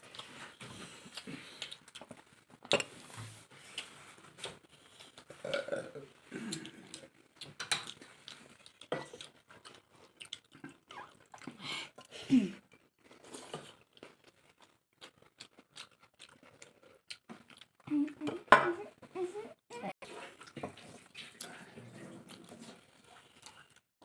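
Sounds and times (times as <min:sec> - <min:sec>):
person chewing food: 0:00.0 - 0:18.2, 0:20.0 - 0:23.9.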